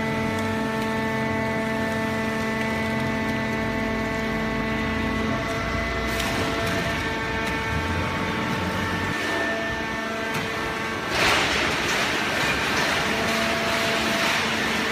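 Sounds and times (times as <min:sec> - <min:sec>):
hydraulic power unit hum: 0:00.0 - 0:14.9.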